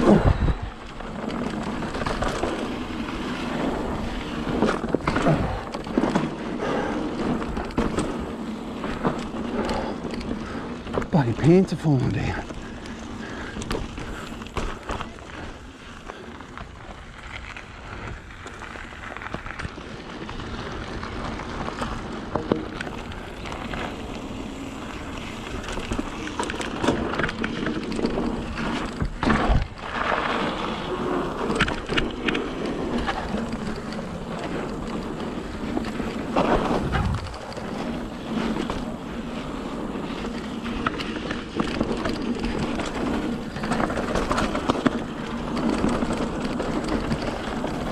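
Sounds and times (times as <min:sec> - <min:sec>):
bike knocking and rattling: 0:00.0 - 0:47.9
bike tyres crunching on gravel: 0:00.0 - 0:47.9
wind rumbling on microphone: 0:00.0 - 0:47.9.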